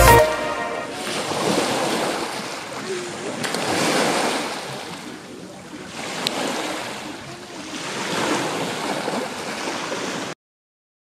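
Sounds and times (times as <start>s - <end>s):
waves breaking on pebble shore: 0.9s - 10.4s.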